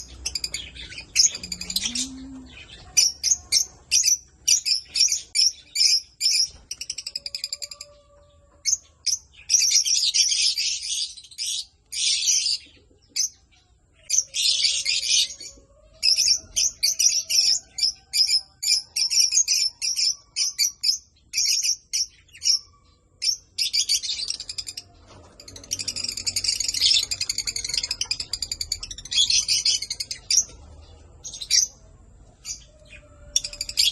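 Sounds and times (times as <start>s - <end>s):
parrots chirping and chattering: 0.0s - 8.0s, 8.6s - 13.4s, 14.0s - 33.9s.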